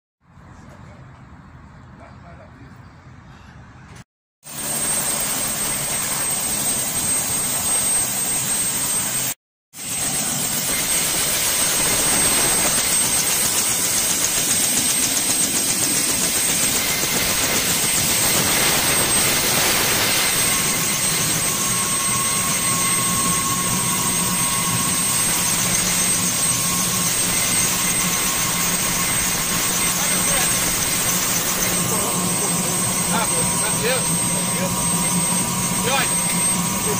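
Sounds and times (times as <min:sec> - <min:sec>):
helicopter rotor and engine rush: 0:04.4 - 0:36.9
high turbine whine: 0:04.5 - 0:36.9
lower whine: 0:04.6 - 0:36.9.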